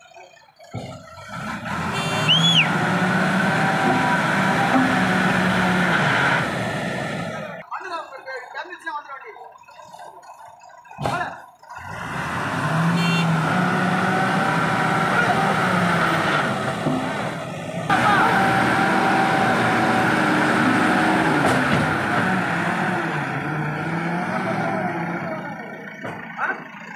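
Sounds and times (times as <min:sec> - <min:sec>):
diesel engines running hard: 0:00.0 - 0:07.8, 0:09.4 - 0:26.9.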